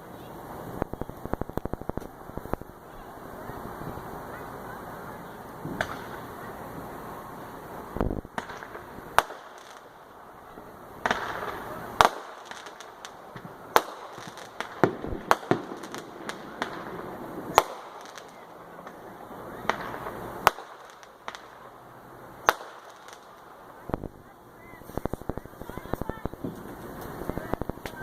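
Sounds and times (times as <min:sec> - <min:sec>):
fireworks bangs and pops: 0:00.0 - 0:04.6, 0:05.2 - 0:28.0.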